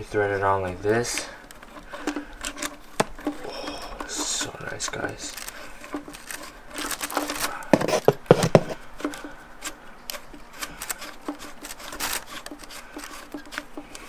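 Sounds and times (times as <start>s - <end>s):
metal parts ticking and rubbing: 0.0s - 14.0s.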